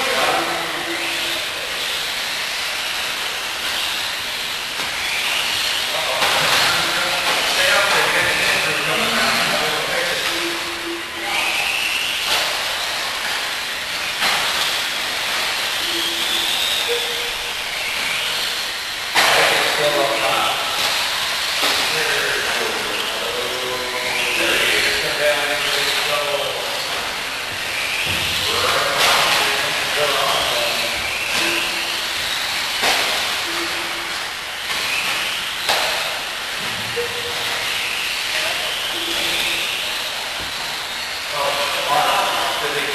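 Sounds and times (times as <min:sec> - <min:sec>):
electric motor whine: 0:00.0 - 0:42.9
steady rushing noise: 0:00.0 - 0:42.9.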